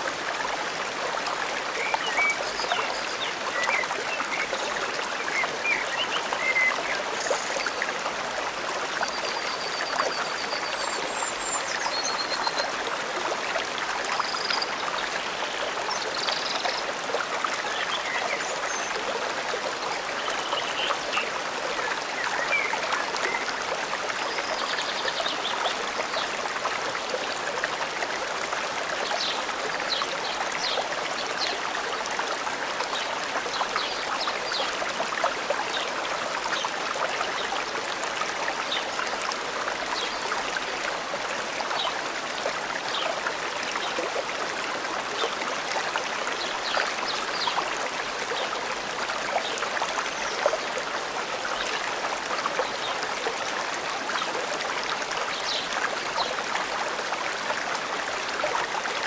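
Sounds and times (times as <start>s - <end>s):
forest stream running: 0.0s - 59.0s.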